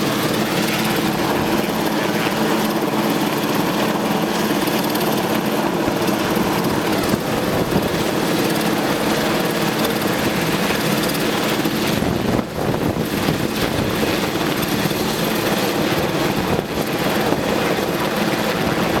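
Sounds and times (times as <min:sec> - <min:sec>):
helicopter hovering: 0:00.0 - 0:19.0.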